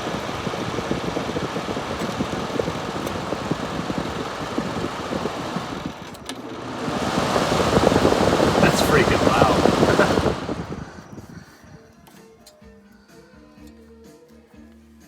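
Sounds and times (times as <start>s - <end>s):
air conditioner fan rattling: 0.0s - 12.8s.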